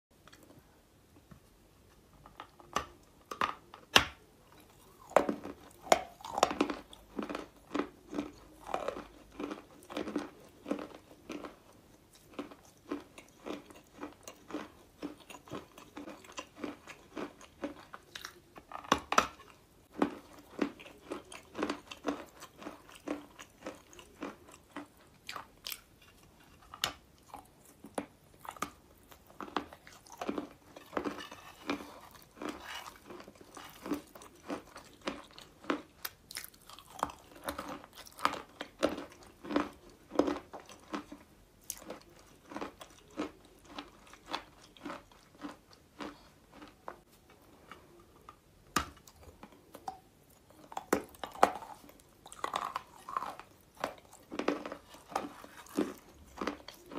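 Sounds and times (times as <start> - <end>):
crunchy chewing: 4.5 - 56.9.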